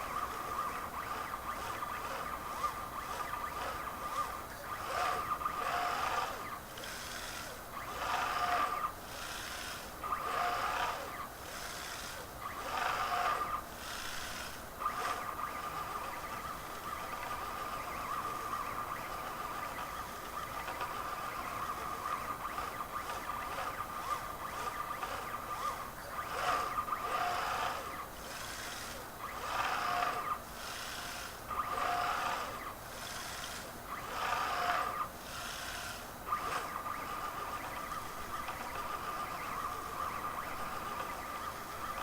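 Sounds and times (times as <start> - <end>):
stepper motors whining: 0.0 - 42.0.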